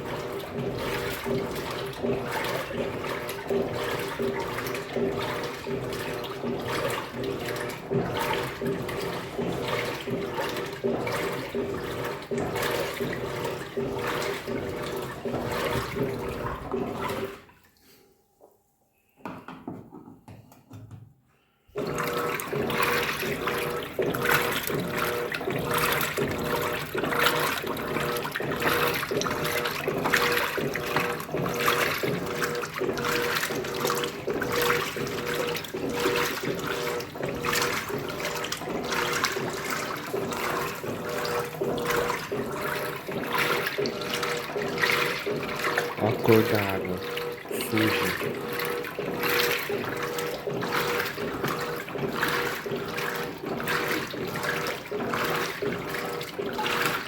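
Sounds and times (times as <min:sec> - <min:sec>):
washing machine water sloshing: 0:00.0 - 0:18.1, 0:21.4 - 0:57.0.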